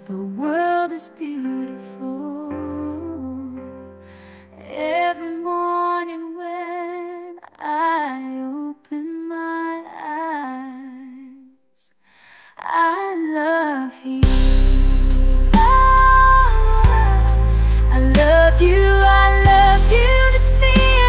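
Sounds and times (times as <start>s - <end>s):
woman singing pop ballad: 0.0s - 11.5s, 12.4s - 21.0s.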